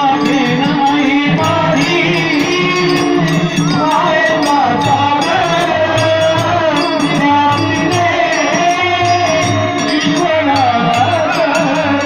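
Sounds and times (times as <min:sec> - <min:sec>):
instrumental accompaniment: 0:00.0 - 0:12.0
jingling hand percussion: 0:00.0 - 0:12.0
person singing devotional song: 0:00.0 - 0:12.0.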